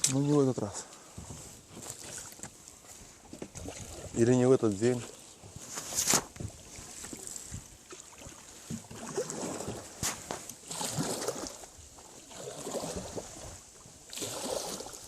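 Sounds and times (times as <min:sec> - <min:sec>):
paddles splashing in water: 0:00.0 - 0:15.0.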